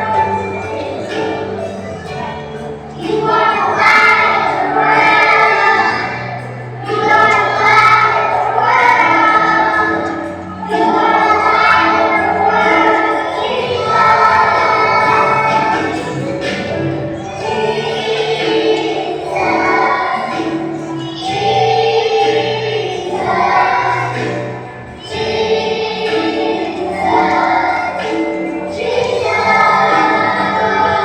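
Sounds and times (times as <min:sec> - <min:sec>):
accompaniment holding long notes: 0:00.0 - 0:31.0
young children's choir singing: 0:00.0 - 0:31.0.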